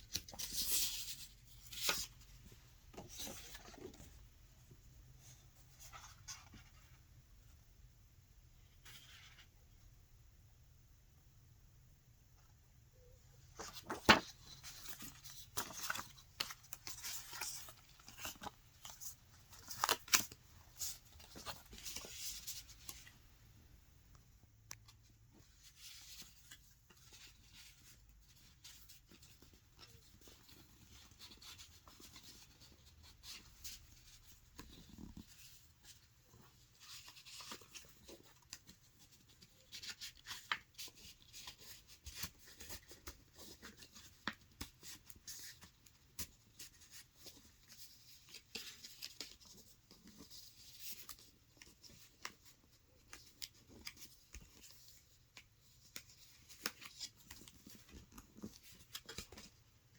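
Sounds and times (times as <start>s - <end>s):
paper rustling and crinkling: 0.0s - 4.3s, 13.5s - 23.3s, 24.9s - 59.9s.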